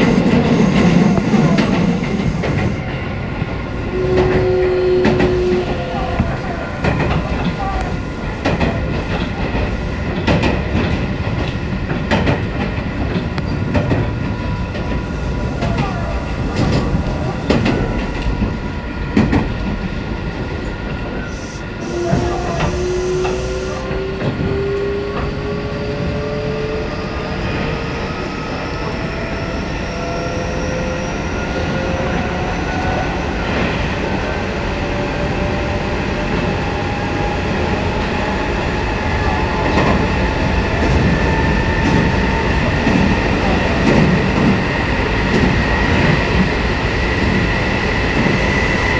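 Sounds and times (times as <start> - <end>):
train rumble: 0.0 - 48.9.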